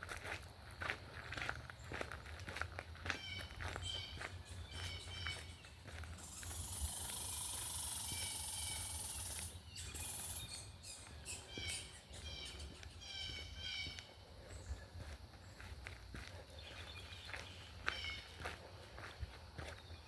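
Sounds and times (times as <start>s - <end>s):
footsteps on dirt trail: 0.0s - 20.0s
small birds chirping: 3.0s - 20.0s.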